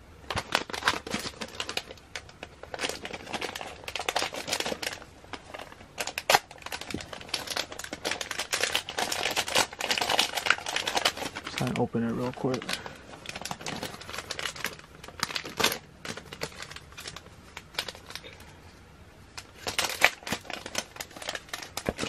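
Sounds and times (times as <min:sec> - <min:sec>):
plastic packaging crinkling: 0:00.2 - 0:18.6, 0:19.3 - 0:22.0.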